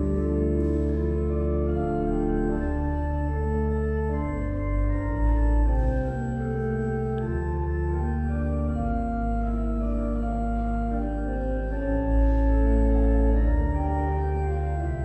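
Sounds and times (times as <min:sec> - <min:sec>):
organ chords over deep bass: 0:00.0 - 0:15.0.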